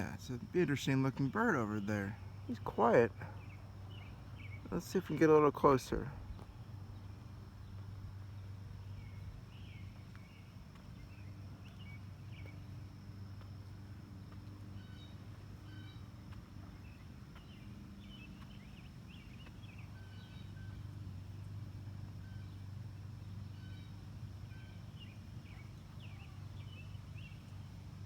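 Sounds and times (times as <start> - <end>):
songbirds chirping: 0.0 - 28.0
steady low hum: 0.0 - 28.0.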